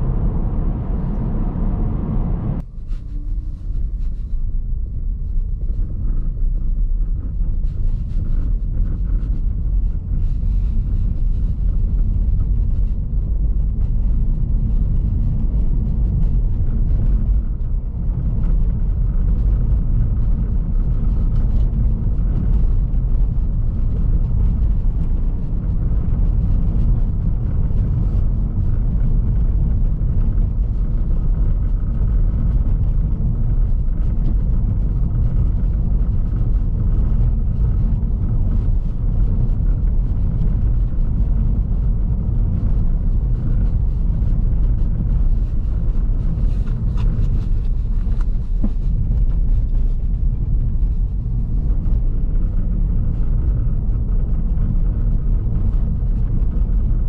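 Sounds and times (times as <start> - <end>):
tyre and road rumble: 0.0 - 57.0.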